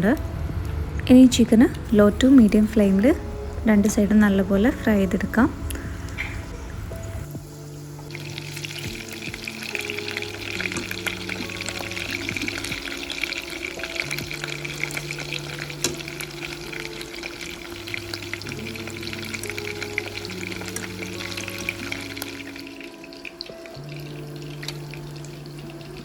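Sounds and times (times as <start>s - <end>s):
chicken frying in hot oil: 4.7s - 26.0s.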